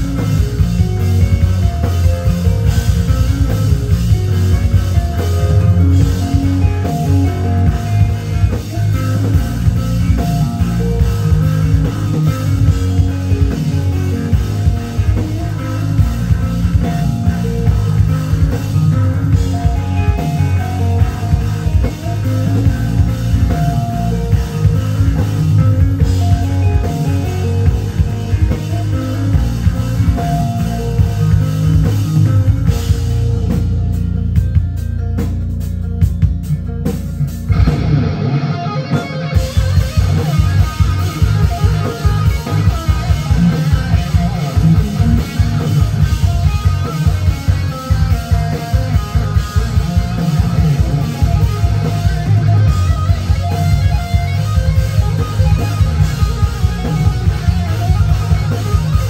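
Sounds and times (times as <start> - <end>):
bass guitar: 0.0 - 59.0
drum kit: 0.0 - 59.0
electric lead guitar: 0.0 - 59.0.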